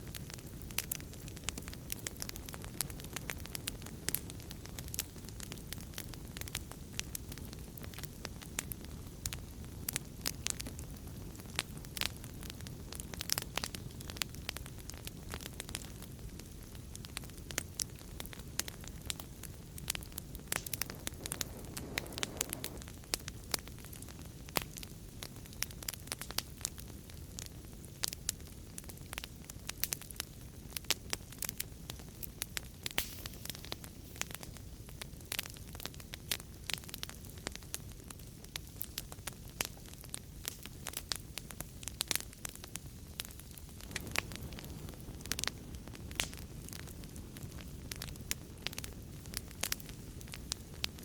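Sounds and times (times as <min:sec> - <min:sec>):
low rumble of flames: 0:00.0 - 0:51.0
wood fire crackling: 0:00.0 - 0:51.0.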